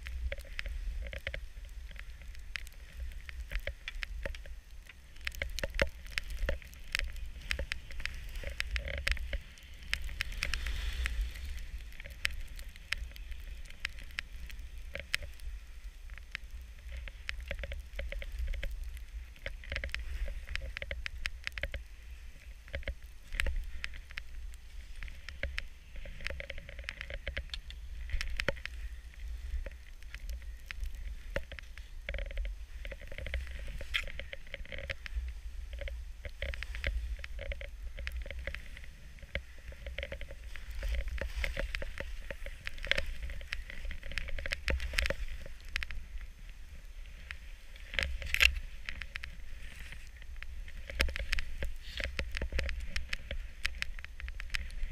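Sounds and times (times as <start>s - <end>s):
skis crunching through snow: 0.0s - 54.9s
wind noise on microphone: 0.0s - 54.9s.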